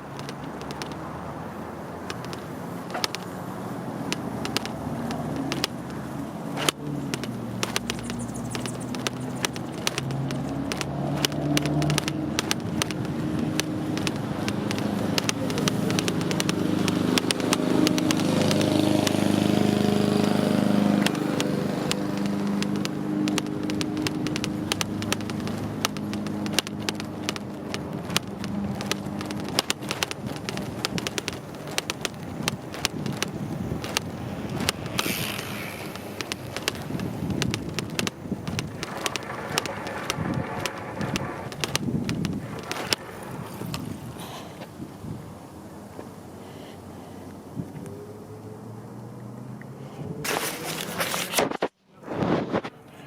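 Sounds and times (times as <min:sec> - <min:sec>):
bike clicks and rattles: 0:00.0 - 0:48.4, 0:49.3 - 0:53.0.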